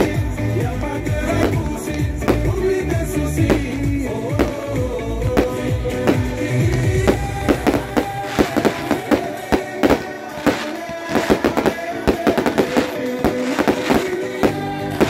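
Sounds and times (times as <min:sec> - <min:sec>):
background music: 0:00.0 - 0:15.0
fireworks bangs and crackles: 0:00.0 - 0:15.0.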